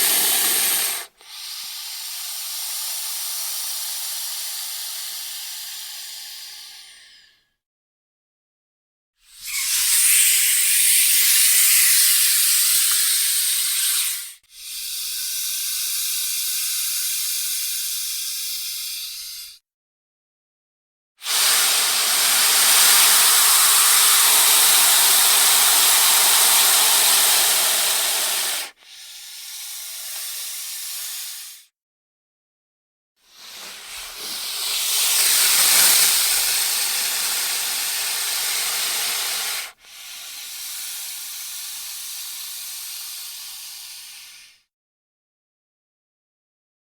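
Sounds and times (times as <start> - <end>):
snake hissing: 0.0 - 7.2, 9.4 - 19.6, 21.2 - 31.6, 33.3 - 44.6.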